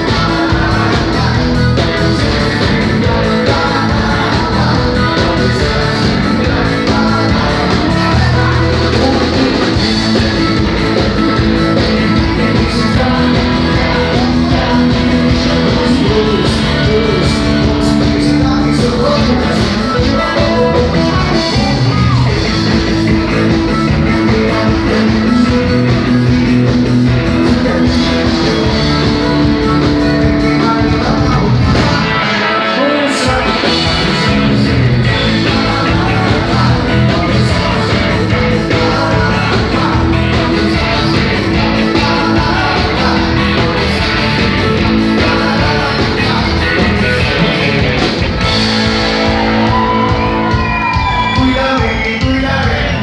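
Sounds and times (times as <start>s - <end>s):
live dance band playing: 0.0s - 53.0s
person singing: 0.0s - 53.0s.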